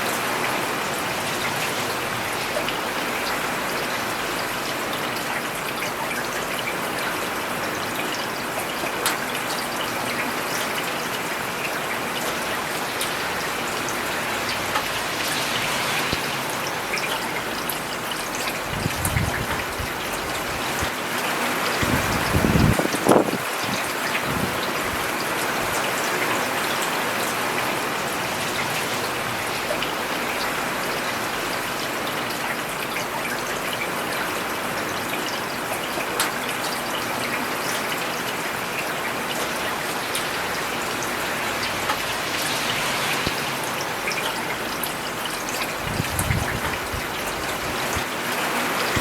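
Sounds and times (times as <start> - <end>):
rain falling on road: 0.0 - 49.0.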